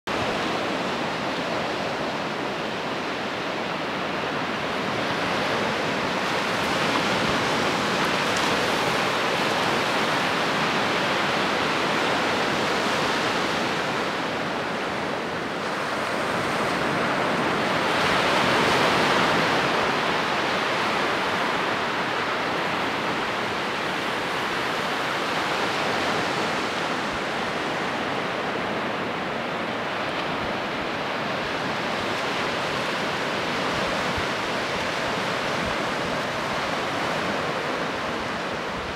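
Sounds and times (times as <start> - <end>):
ocean surf washing on beach: 0.1 - 38.9.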